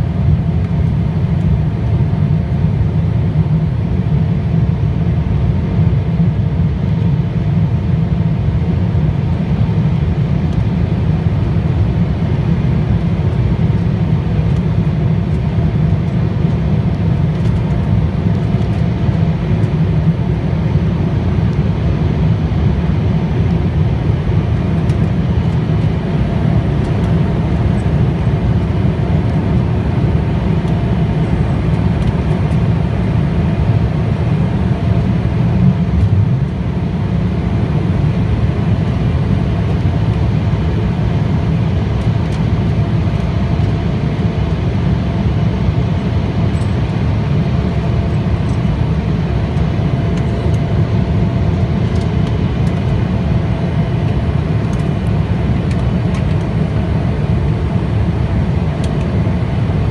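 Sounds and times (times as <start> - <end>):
faint steady hum: 0.0 - 59.9
jet engine rumble in cabin: 0.0 - 59.9.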